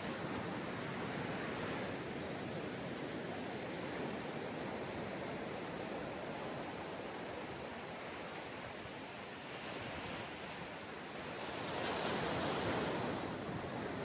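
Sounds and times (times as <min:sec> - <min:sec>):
ocean surf on a beach: 0:00.0 - 0:14.0.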